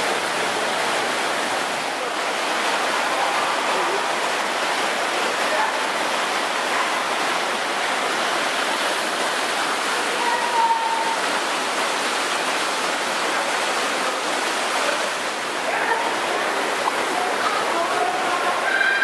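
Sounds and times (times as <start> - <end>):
rushing white water: 0.0 - 19.0.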